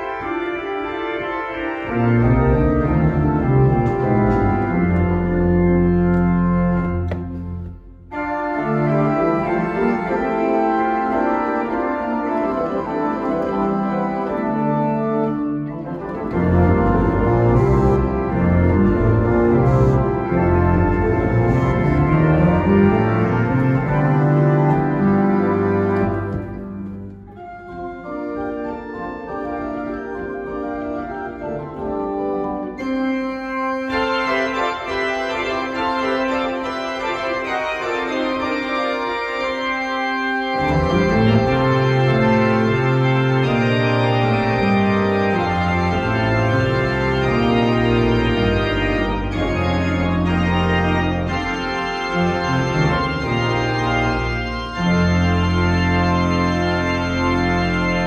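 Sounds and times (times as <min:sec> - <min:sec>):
church organ playing: 0:00.0 - 0:58.0
deep organ pedal bass line: 0:00.0 - 0:58.0.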